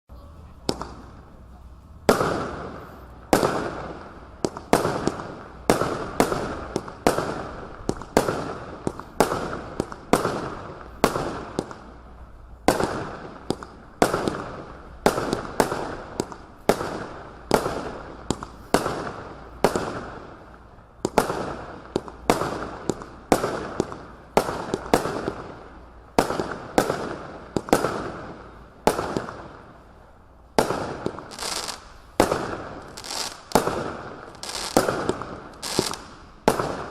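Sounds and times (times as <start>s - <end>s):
firework barrage bangs: 0.3s - 1.3s, 2.0s - 12.0s, 12.6s - 29.7s, 30.5s - 36.9s.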